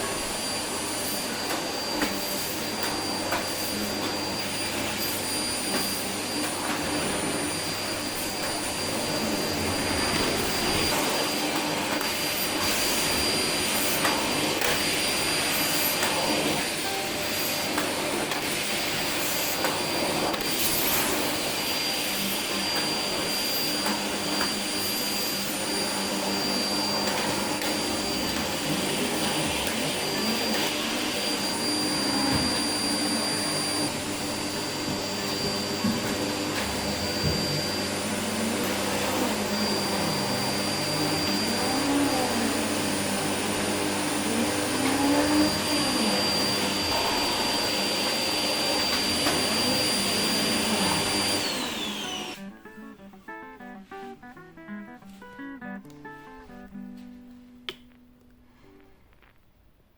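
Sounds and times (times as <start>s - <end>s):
vacuum cleaner running: 0.0s - 57.1s.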